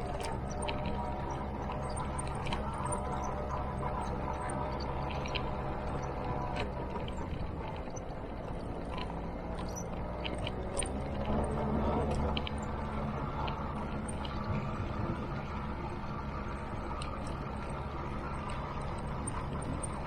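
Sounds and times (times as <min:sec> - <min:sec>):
motor scooter engine running: 0:00.0 - 0:20.0.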